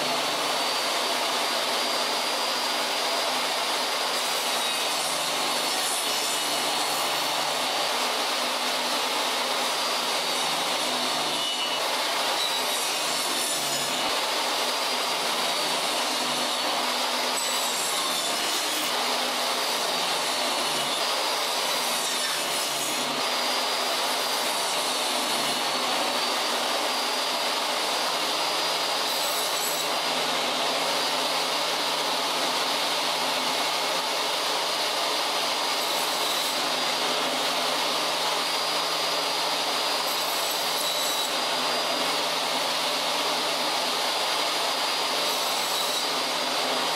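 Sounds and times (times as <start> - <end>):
table saw cutting boards: 0.0 - 46.9.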